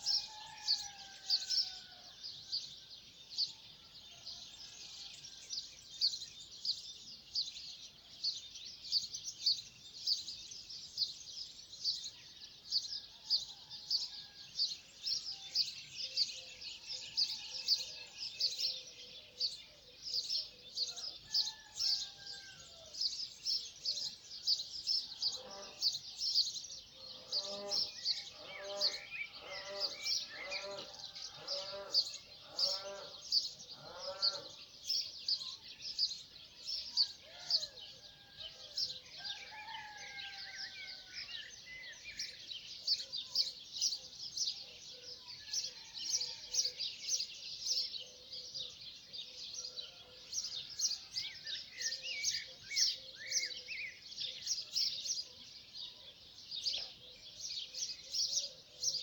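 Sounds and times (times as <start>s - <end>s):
birds chirping and twittering: 0.0s - 59.0s.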